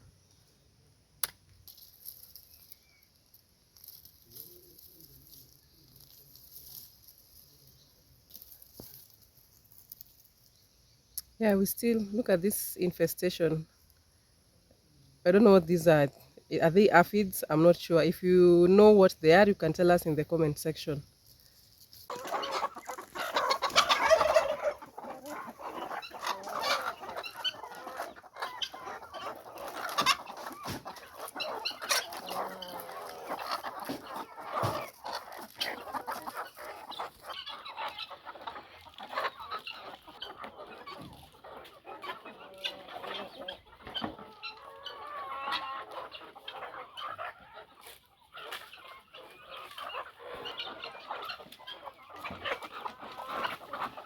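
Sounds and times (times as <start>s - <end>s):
chickens clucking: 1.9s - 54.0s.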